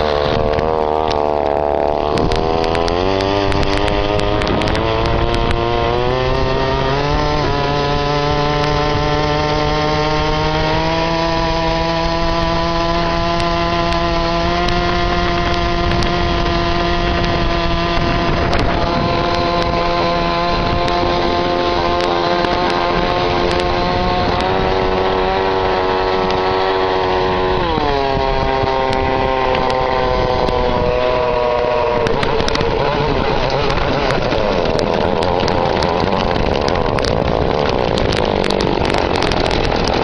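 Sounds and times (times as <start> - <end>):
two-stroke engine buzzing: 0.0 - 40.0.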